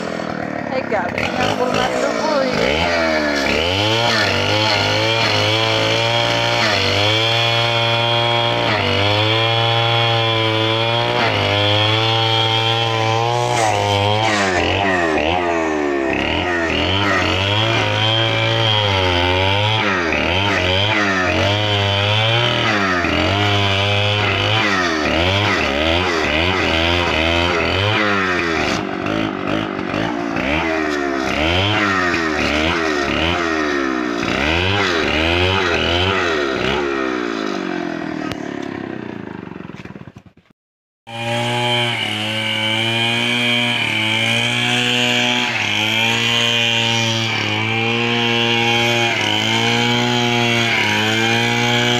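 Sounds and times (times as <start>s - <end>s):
chainsaw cutting wood: 0.0s - 40.5s, 41.1s - 51.9s.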